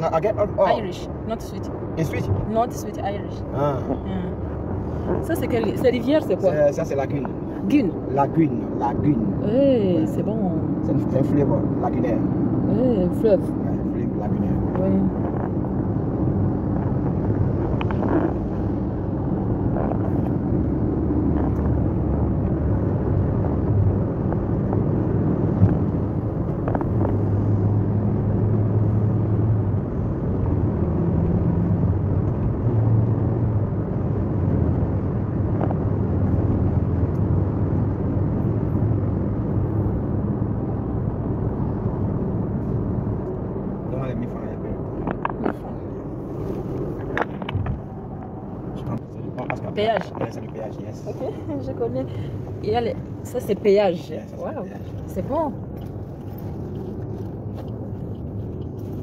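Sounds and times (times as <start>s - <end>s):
car cabin road noise: 0.0s - 59.0s
low engine hum: 0.0s - 59.0s.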